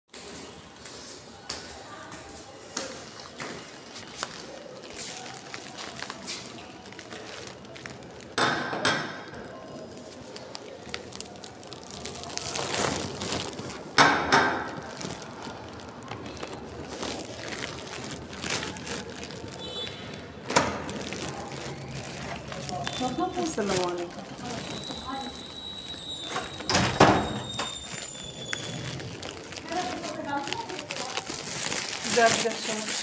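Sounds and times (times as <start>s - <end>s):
plastic bag rustling: 2.9s - 8.4s, 9.3s - 33.0s.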